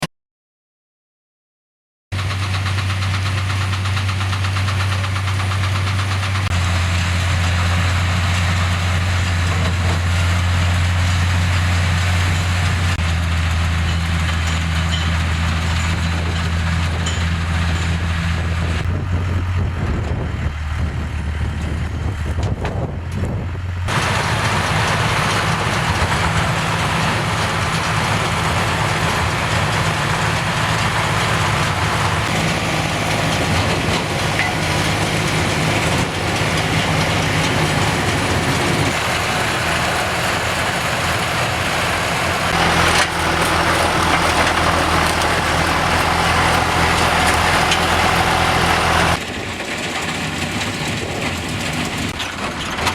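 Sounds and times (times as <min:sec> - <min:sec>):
tractor engine running: 0:02.1 - 0:52.9
baler mechanical clatter: 0:02.2 - 0:52.9.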